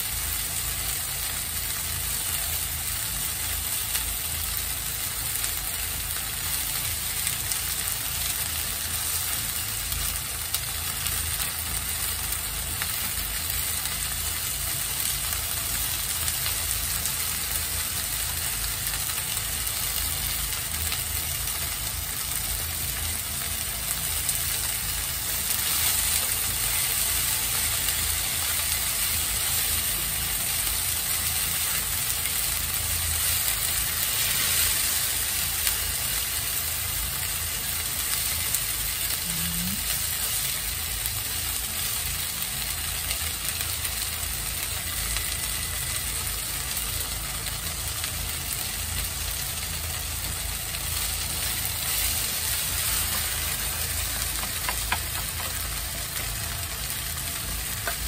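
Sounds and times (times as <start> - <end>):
shrimp sizzling in oil: 0.0 - 58.0.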